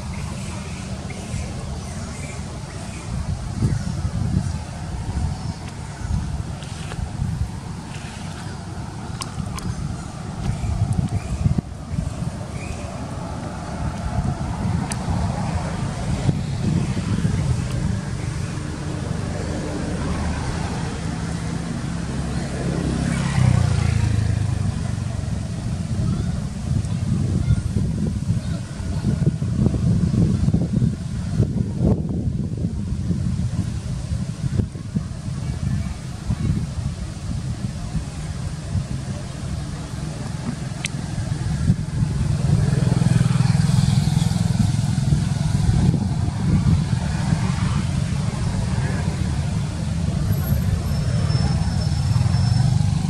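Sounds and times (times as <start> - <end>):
vehicle engine hum: 0.0 - 53.0.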